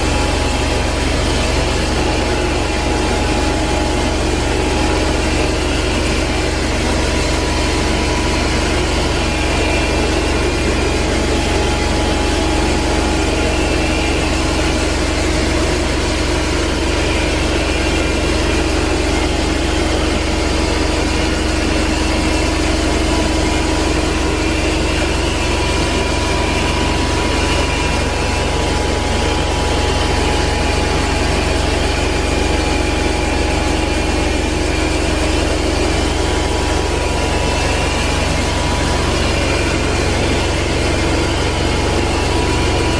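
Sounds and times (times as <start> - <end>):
carpet extraction machine running: 0.0 - 42.9.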